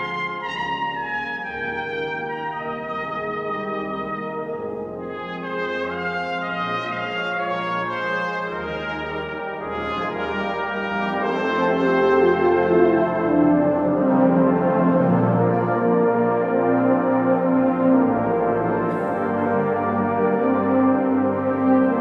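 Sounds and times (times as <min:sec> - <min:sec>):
brass band low chords: 0:00.0 - 0:22.0
cornet solo melody: 0:00.0 - 0:22.0.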